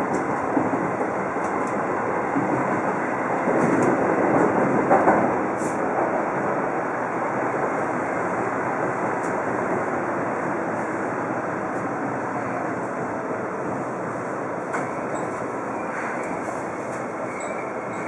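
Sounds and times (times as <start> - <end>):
commuter train rumbling on rails: 0.0 - 18.0.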